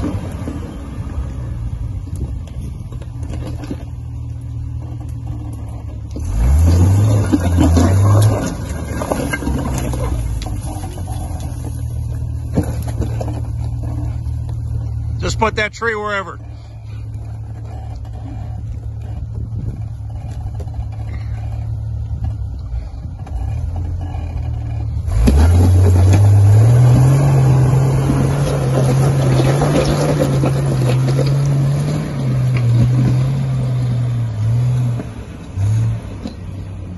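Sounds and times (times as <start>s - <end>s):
engine idling and revving: 0.0s - 36.9s.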